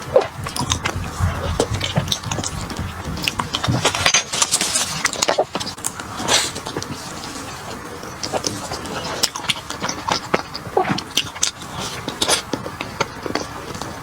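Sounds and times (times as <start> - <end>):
crunching and chewing: 0.0 - 14.0.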